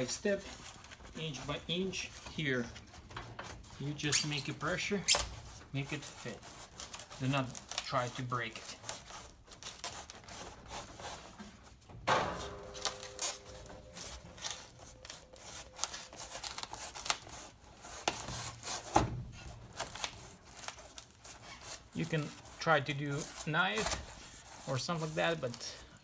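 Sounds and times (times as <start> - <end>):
foam crackling against metal: 0.0 - 26.0
foam scraping metal: 0.0 - 26.0.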